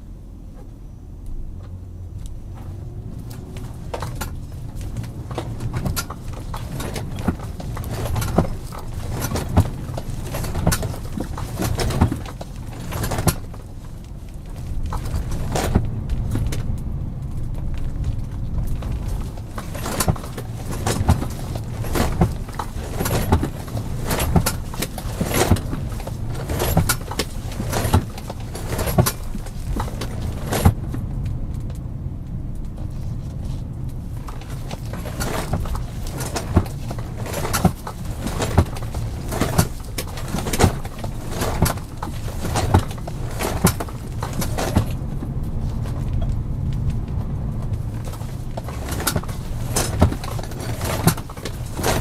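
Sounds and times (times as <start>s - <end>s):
car engine and road hum: 0.0s - 52.0s.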